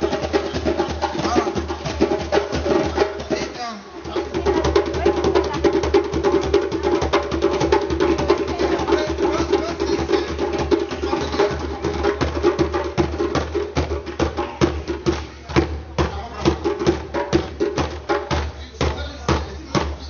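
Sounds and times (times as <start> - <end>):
fast hand drumming: 0.0 - 20.0.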